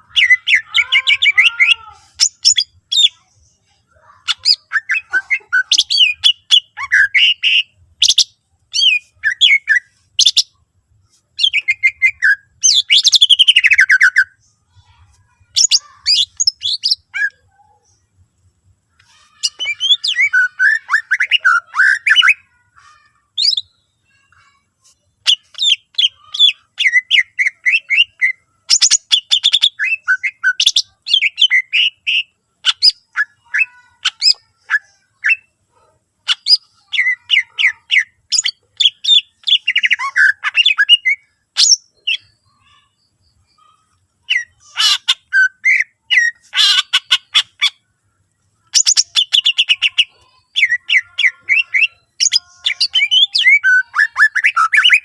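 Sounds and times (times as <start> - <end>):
bird singing trills and whistles: 0.0 - 10.6, 11.4 - 18.1, 18.9 - 47.8, 48.6 - 55.0.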